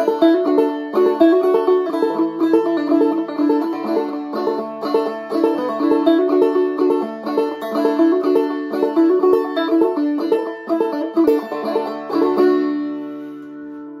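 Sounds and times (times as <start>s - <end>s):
banjo playing fiddle-tune melody: 0.0s - 14.0s.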